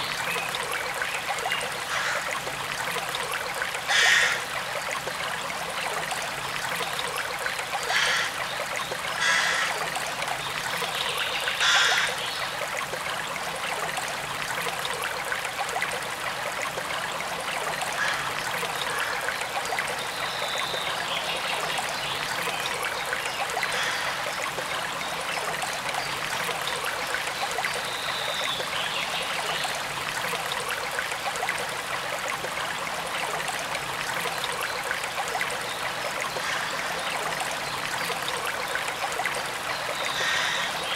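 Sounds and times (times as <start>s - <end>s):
forest stream running: 0.0s - 40.9s.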